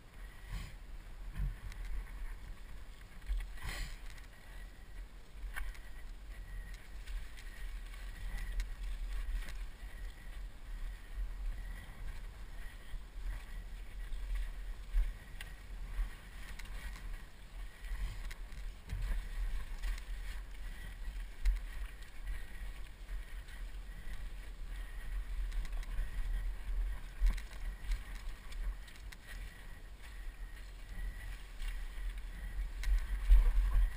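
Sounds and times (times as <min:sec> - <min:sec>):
wind rumble on microphone: 0:00.0 - 0:33.9.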